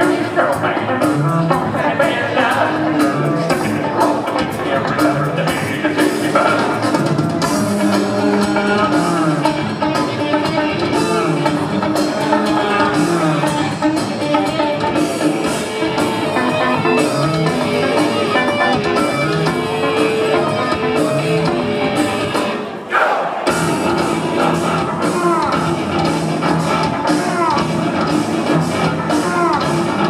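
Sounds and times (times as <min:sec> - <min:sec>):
electric bass line: 0:00.0 - 0:22.6, 0:23.5 - 0:30.0
electric guitar: 0:00.0 - 0:22.8, 0:23.5 - 0:30.0
drum kit: 0:00.0 - 0:30.0.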